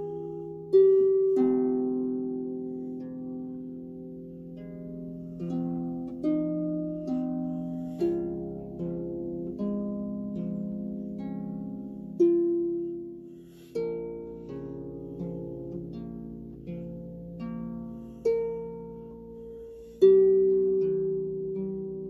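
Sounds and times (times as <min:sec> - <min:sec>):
solo harp playing: 0:00.0 - 0:22.0.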